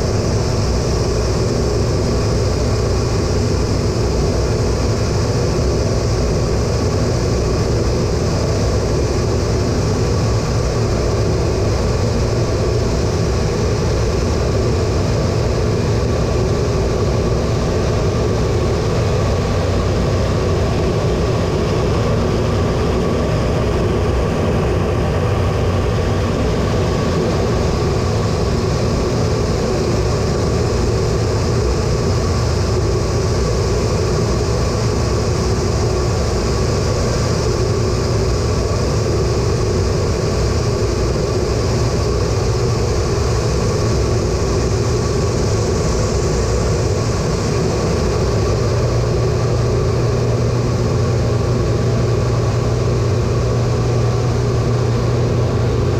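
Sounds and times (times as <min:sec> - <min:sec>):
jet engine drone in cockpit: 0:00.0 - 0:55.9.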